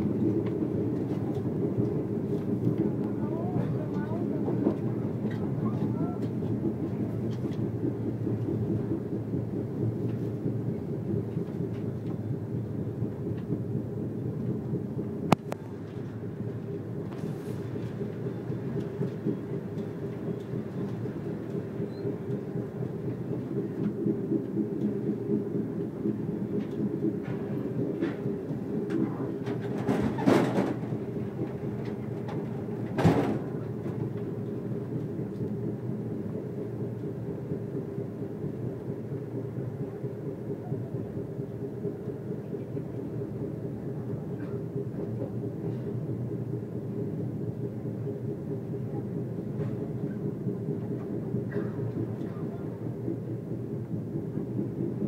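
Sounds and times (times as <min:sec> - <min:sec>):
constant low hum: 0:00.0 - 0:55.0
train wheels rumbling on track: 0:00.0 - 0:55.0.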